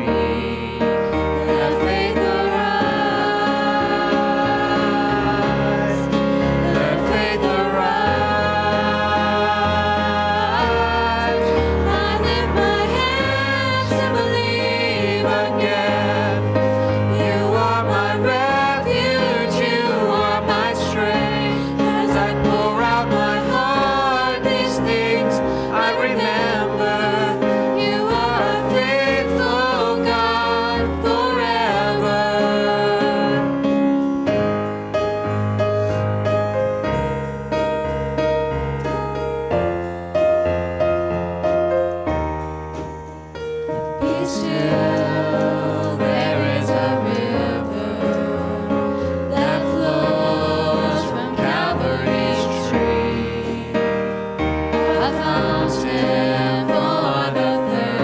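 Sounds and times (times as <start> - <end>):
voices singing together: 0.0 - 33.9, 44.0 - 58.0
electric keyboard chords: 0.0 - 58.0.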